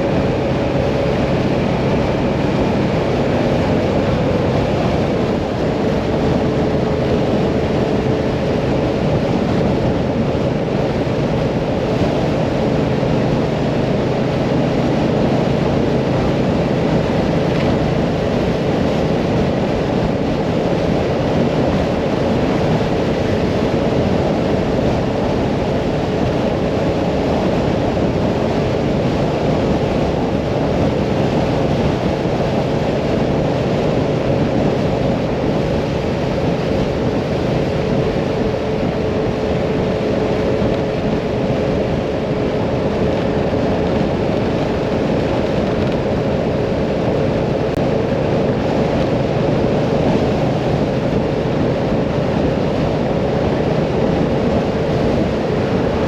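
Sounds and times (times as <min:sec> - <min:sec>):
motorcycle engine drone: 0:00.0 - 0:56.0
wind rushing over microphone: 0:00.0 - 0:56.0.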